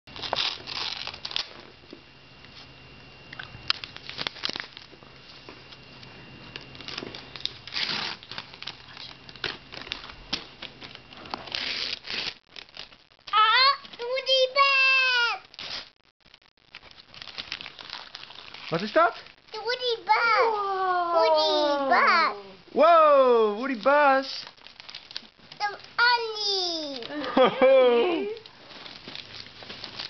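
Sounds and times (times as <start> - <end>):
wrapping paper tearing and crumpling: 0.1 - 1.8, 3.7 - 4.9, 6.6 - 22.4, 23.6 - 27.6, 28.3 - 30.0.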